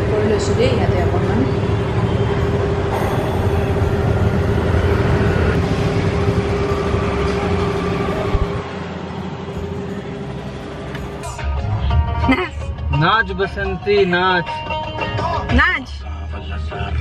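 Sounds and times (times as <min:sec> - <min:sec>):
vehicle rumbling and droning: 0:00.0 - 0:17.0.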